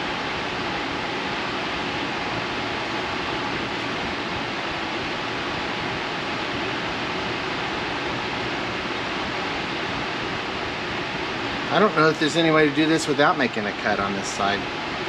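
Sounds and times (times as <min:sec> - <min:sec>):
fan rushing air: 0:00.0 - 0:15.0.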